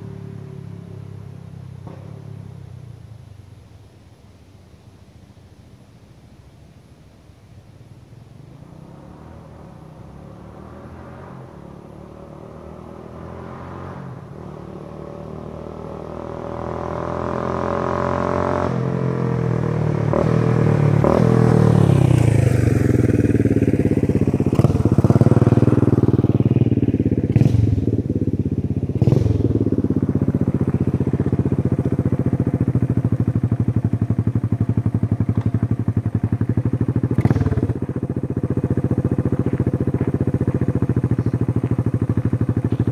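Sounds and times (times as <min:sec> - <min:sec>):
motorcycle engine: 0:00.0 - 0:03.4, 0:08.4 - 0:42.9.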